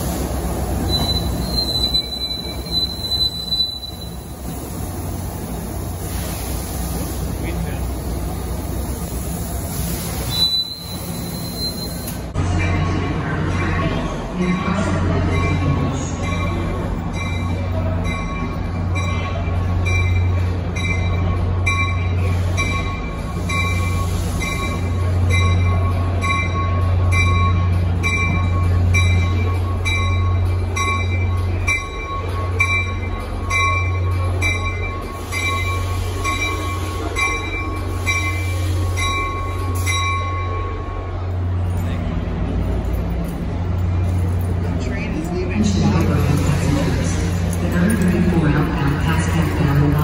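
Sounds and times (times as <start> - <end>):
low hum of train equipment: 0.0 - 50.0
train bell ringing: 0.8 - 4.6, 10.4 - 50.0.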